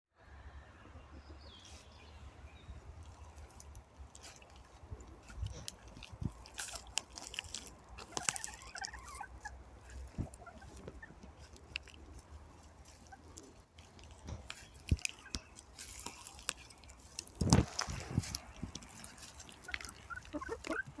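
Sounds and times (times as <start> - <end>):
chickens clucking: 0.7 - 21.0
chickens pecking clicks: 2.9 - 21.0.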